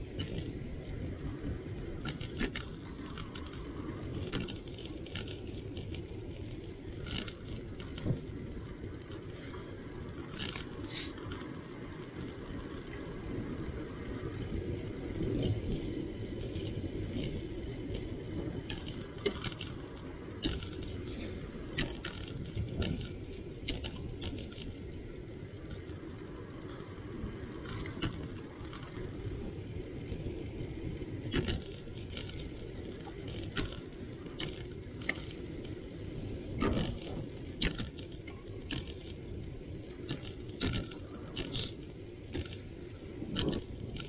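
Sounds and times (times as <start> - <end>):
bicycle tyres rumbling: 0.0 - 44.0
wind: 0.0 - 44.0.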